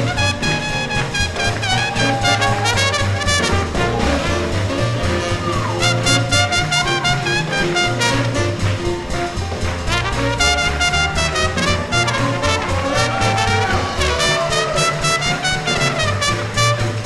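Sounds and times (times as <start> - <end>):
drums: 0.0 - 17.0
saxophone: 0.0 - 17.0
trumpet: 0.0 - 17.0
upright bass walking: 0.0 - 17.0.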